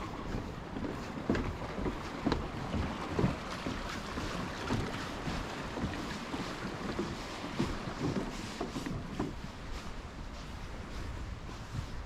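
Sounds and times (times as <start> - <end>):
footsteps on wooden boardwalk: 0.0 - 12.0
waves washing: 0.0 - 12.0
wind buffeting microphone: 0.0 - 12.0.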